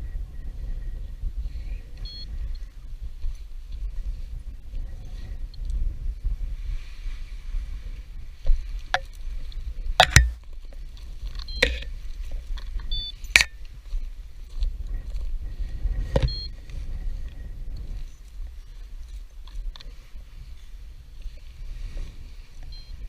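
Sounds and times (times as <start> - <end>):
gusty wind on microphone: 0.0 - 23.0.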